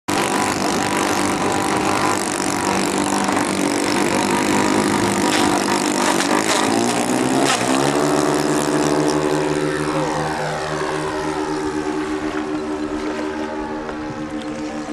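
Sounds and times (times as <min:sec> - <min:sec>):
model plane propeller motors: 0:00.1 - 0:14.9.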